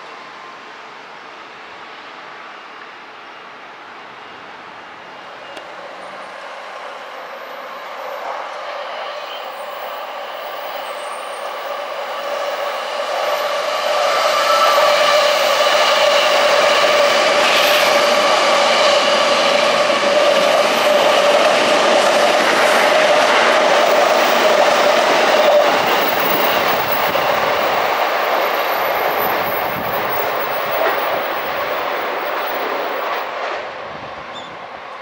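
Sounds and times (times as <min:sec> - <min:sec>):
electric train whine: 0:00.0 - 0:35.0.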